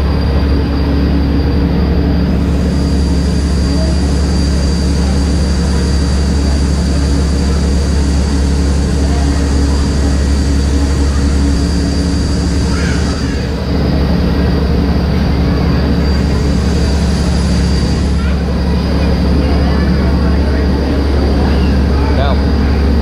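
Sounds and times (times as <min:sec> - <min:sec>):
boat diesel engines droning: 0:00.0 - 0:23.0.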